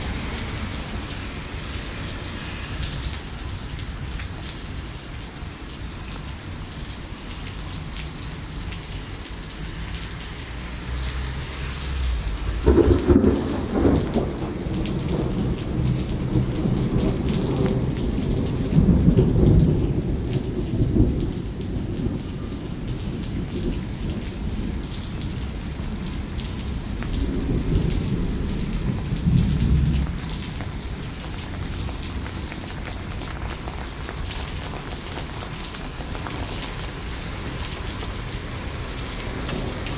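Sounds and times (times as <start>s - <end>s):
thunder rumbling: 0.0s - 4.7s, 10.3s - 39.9s
heavy rain on pavement: 0.0s - 39.9s.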